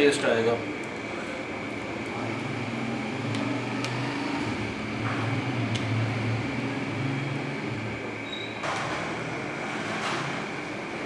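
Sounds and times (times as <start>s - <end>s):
electric machine hum with whine: 0.0s - 11.0s.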